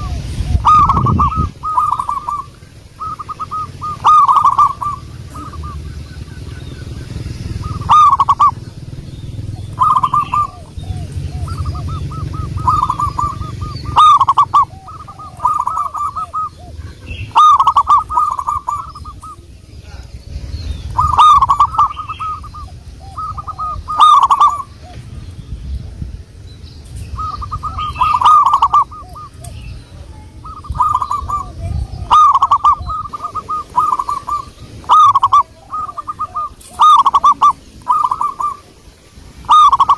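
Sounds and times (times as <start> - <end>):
dove cooing: 0.0 - 25.2, 27.1 - 39.9
high chirps: 0.0 - 25.8, 26.6 - 39.9
low steady rumble: 0.0 - 39.9.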